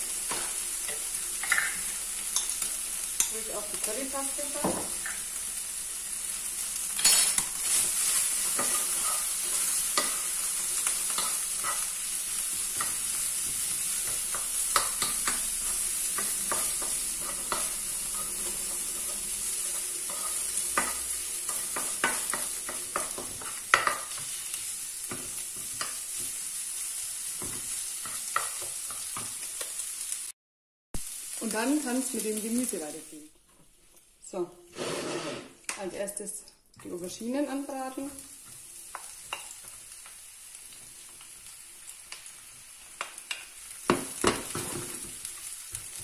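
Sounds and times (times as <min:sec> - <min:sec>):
meat sizzling in oil: 0:00.0 - 0:30.4, 0:31.0 - 0:33.3, 0:37.2 - 0:46.0.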